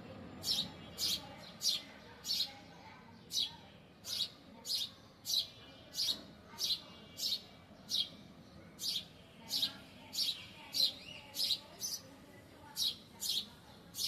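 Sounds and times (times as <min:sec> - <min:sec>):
bird chirping: 0:00.3 - 0:02.6, 0:03.2 - 0:12.1.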